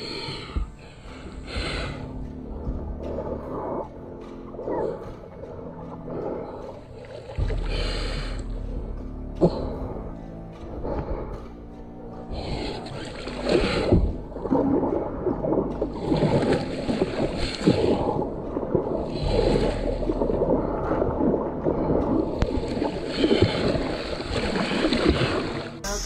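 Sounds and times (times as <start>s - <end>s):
kayak paddle strokes: 0.0s - 26.0s
water splashing along hull: 0.0s - 26.0s.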